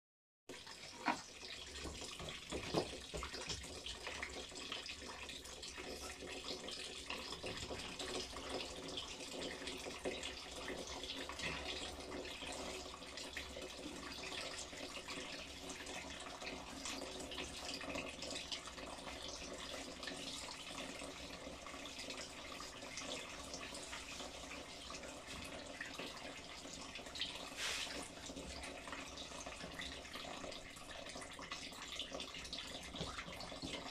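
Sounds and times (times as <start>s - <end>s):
liquid trickling and dripping: 0.5s - 33.9s.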